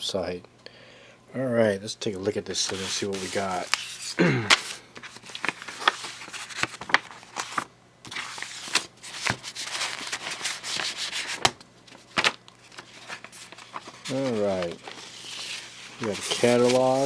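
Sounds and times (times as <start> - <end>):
paper rustling and crackling: 2.2 - 17.0.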